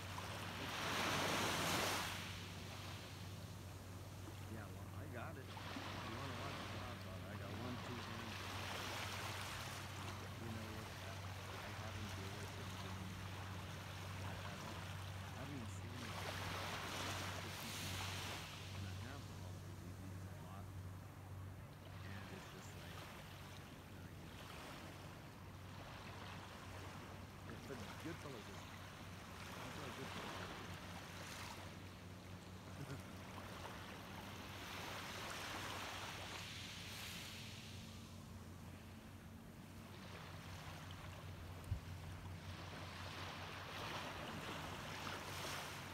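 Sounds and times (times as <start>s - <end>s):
small waves lapping on shore: 0.0s - 45.9s
steady low hum: 0.0s - 45.9s.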